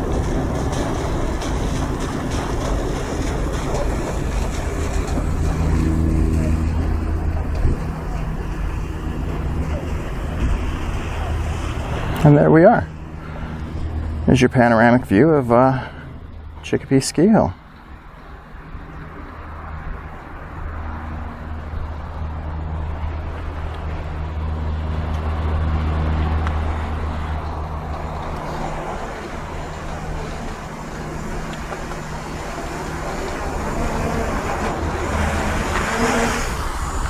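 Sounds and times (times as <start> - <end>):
vehicle engine hum: 0.0 - 37.0.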